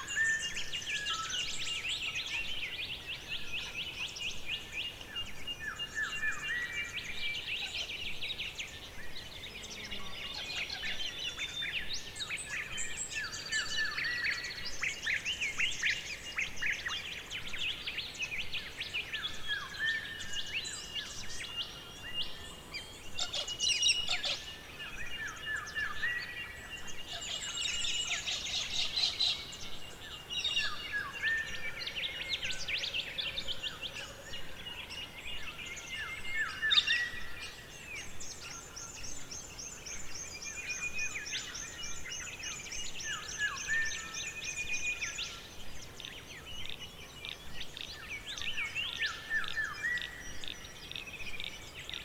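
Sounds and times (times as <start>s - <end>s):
forest background hiss: 0.0s - 52.0s
songbirds singing: 0.0s - 52.0s.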